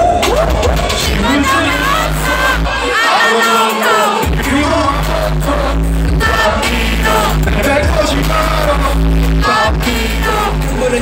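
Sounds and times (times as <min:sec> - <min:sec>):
hip-hop backing track with heavy bass: 0:00.0 - 0:11.0
male vocals: 0:00.0 - 0:11.0.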